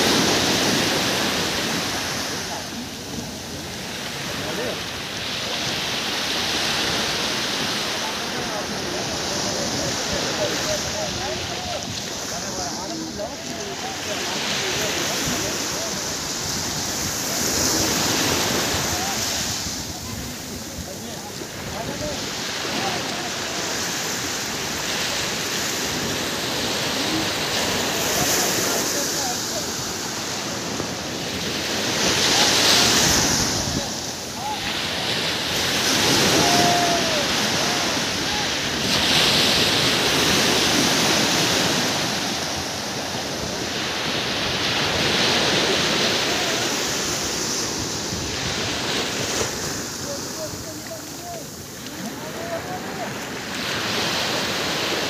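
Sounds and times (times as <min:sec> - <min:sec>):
small waves breaking on beach: 0:00.0 - 0:55.0
surf washing onto sand: 0:00.0 - 0:55.0
wind on microphone: 0:08.5 - 0:54.5.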